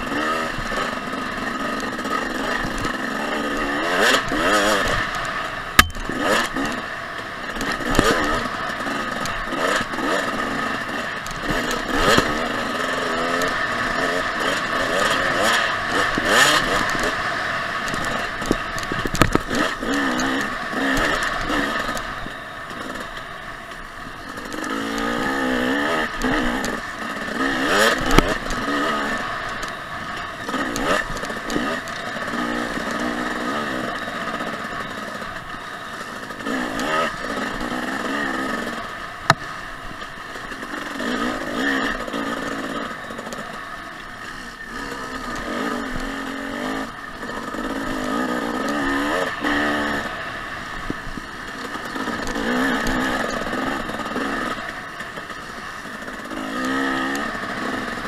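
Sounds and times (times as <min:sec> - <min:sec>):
bike knocking and rattling: 0:00.0 - 0:58.0
dirt bike engine revving: 0:00.0 - 0:58.0.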